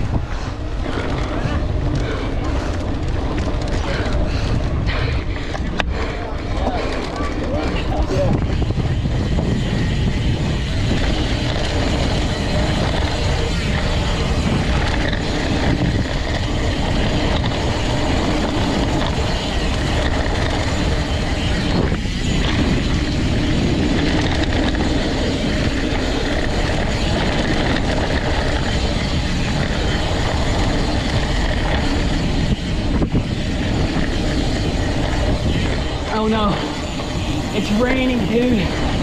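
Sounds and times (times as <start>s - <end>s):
bike tyre rumble and rattling: 0.0s - 39.0s
wind buffeting microphone: 0.0s - 39.0s.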